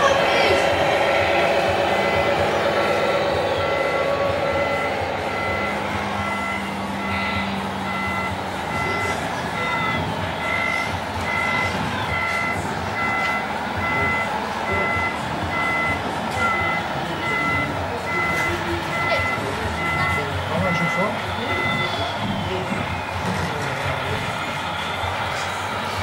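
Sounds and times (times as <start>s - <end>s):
reversing beeper: 0.0s - 26.0s
vehicle noise: 0.0s - 26.0s.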